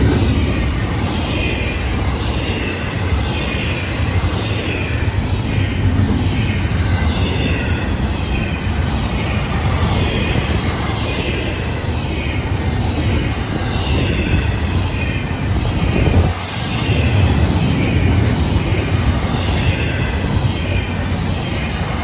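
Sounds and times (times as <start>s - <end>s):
freight train wheels rumbling on rail: 0.0s - 22.0s
train cars clattering: 0.0s - 22.0s.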